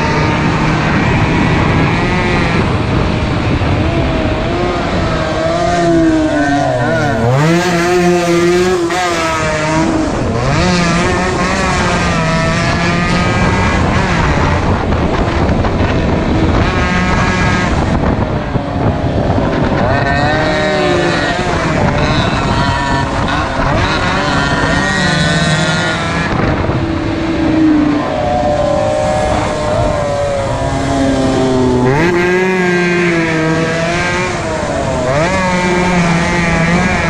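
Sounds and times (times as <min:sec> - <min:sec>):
two-stroke motorcycle engines revving: 0:00.0 - 0:37.0.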